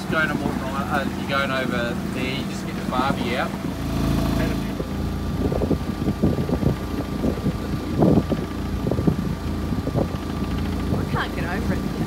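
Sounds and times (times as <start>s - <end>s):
low engine hum: 0.0s - 12.0s
wind buffeting microphone: 0.0s - 12.0s.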